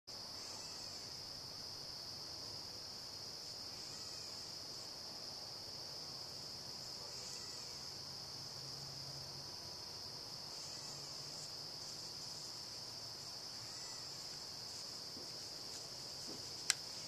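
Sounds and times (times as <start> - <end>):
crickets trilling: 0.1 - 17.0.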